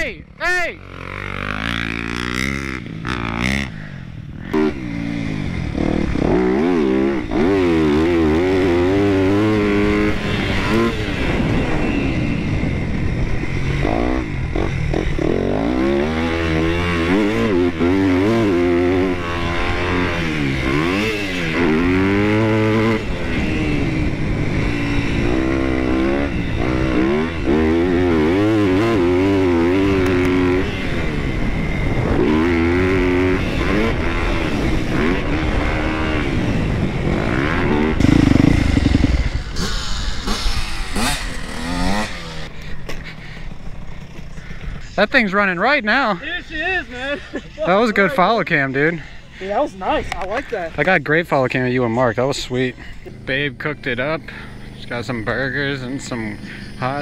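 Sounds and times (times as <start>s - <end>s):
dirt bike engine revving: 0.0s - 44.2s, 51.6s - 57.0s.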